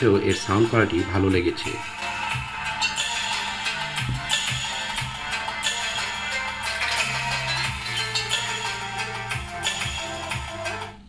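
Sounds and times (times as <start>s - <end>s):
music with strong bass line: 0.0s - 11.0s.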